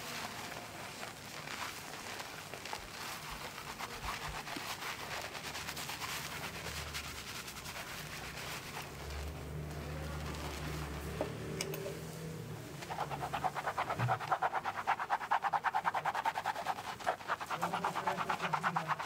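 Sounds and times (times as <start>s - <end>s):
hair lather crackling: 0.0s - 11.8s, 12.6s - 19.0s.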